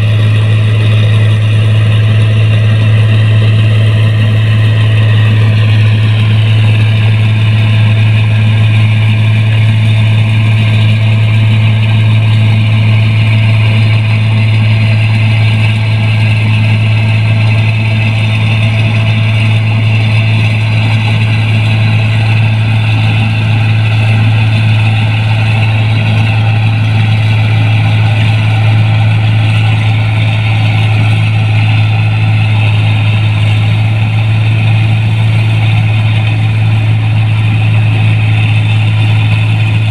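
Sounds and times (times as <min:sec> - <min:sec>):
combine harvester drone: 0:00.0 - 0:39.9
constant low hum: 0:00.0 - 0:39.9.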